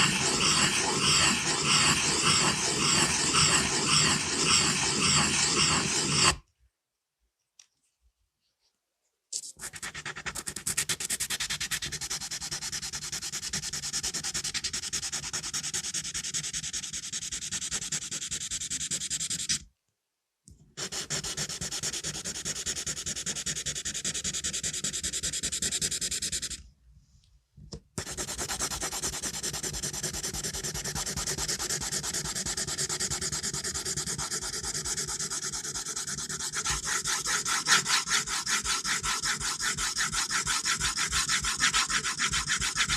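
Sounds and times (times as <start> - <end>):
pencil scratching on paper: 0.0 - 6.4, 9.4 - 19.6, 20.8 - 26.6, 28.0 - 42.9.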